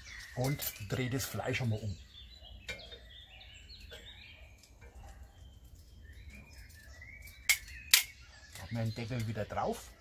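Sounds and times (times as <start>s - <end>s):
birds chirping and singing: 0.0s - 10.0s.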